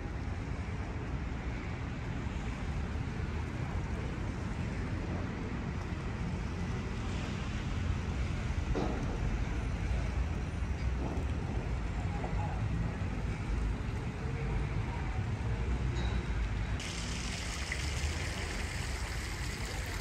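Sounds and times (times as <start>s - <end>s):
distant road traffic: 0.0s - 20.0s.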